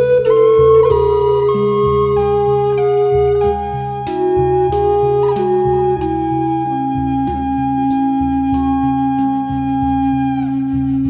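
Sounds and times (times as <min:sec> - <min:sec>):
flute playing: 0:00.0 - 0:11.0
struck percussion steady beat: 0:00.2 - 0:11.0.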